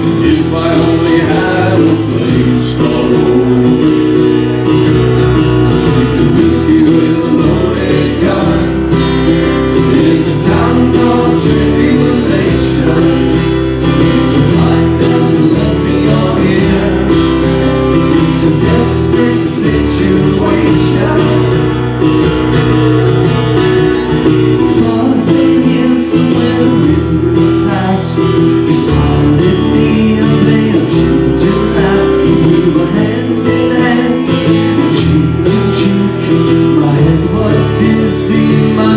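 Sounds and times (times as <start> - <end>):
man singing: 0.0 - 38.9
strummed acoustic guitars: 0.0 - 38.9.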